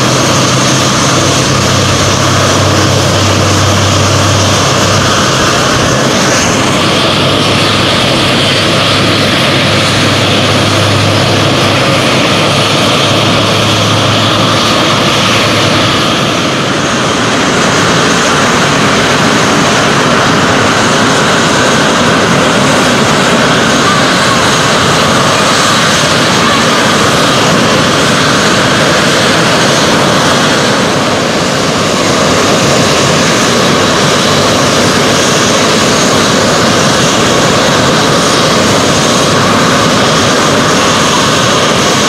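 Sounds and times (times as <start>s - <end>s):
jet engine roar with whine: 0.0s - 42.0s.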